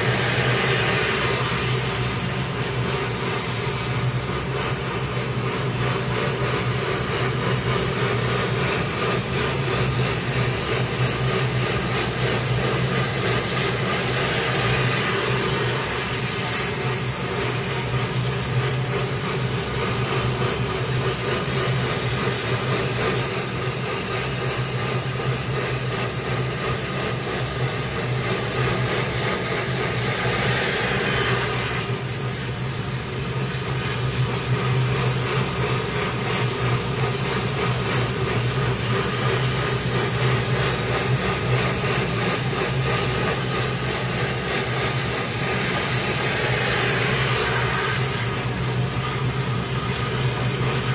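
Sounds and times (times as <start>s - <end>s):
welding torch flame hissing: 0.0s - 50.9s.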